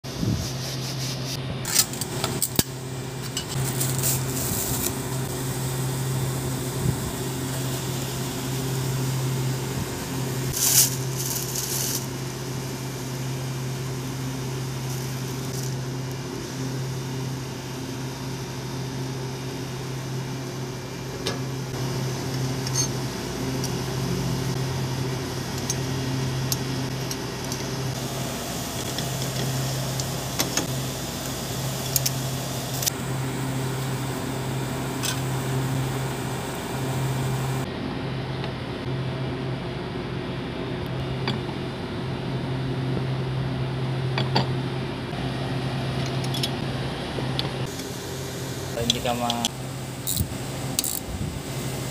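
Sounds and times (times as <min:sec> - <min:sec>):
refrigeration machinery hum: 0:00.0 - 0:51.9.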